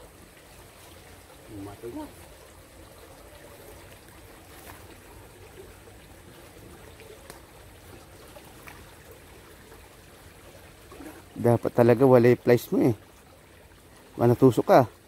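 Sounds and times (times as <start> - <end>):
creek water trickling over rocks: 0.0 - 15.0.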